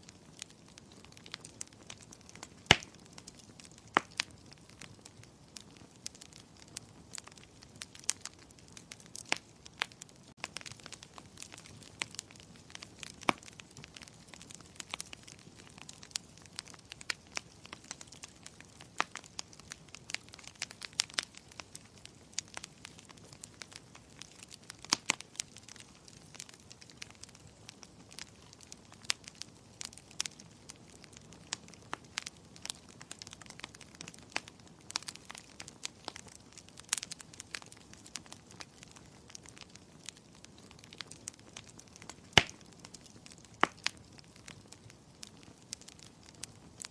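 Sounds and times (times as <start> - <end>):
low steady hiss: 0.0 - 46.9
wood fire crackling and popping: 0.0 - 46.9.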